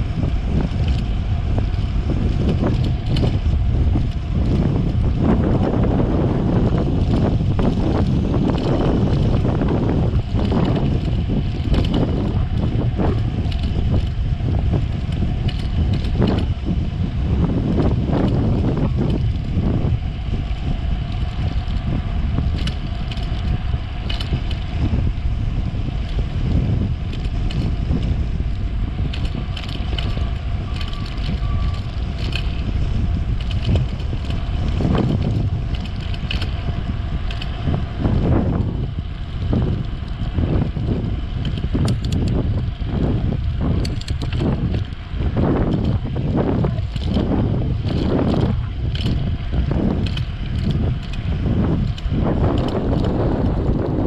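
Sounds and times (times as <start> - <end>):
bicycle clicks and rattles: 0.0 - 54.0
tyre noise on rough asphalt: 0.0 - 54.0
wind buffeting microphone: 0.0 - 54.0.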